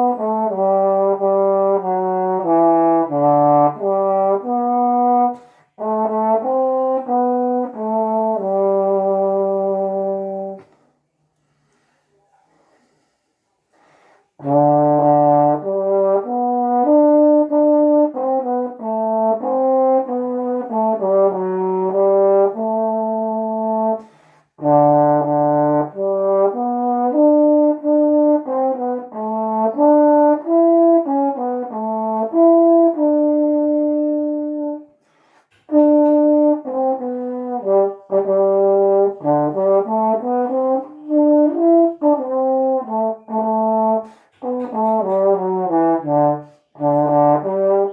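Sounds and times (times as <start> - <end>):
solo trombone playing a hymn: 0.0 - 10.7, 14.4 - 47.9.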